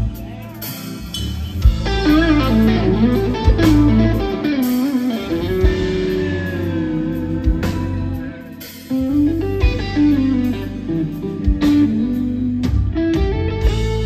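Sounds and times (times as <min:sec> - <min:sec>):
bass guitar: 0:00.0 - 0:14.0
electric guitar lead: 0:00.0 - 0:14.0
live blues band: 0:00.0 - 0:14.0.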